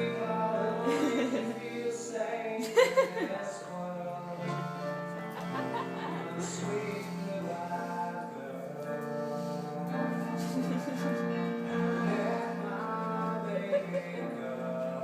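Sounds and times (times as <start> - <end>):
background music with choral notes: 0.0 - 15.0.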